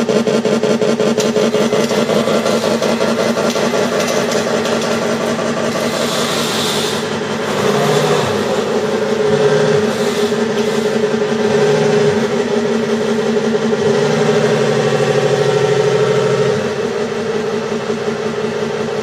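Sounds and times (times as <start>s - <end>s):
simulated tank engine idling: 0.0s - 19.0s.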